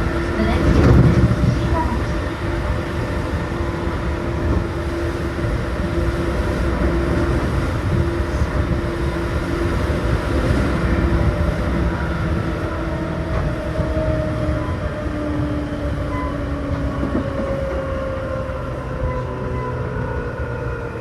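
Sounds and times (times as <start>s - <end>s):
train motor hum: 0.0s - 21.0s
wheels rumbling on rail: 0.0s - 21.0s.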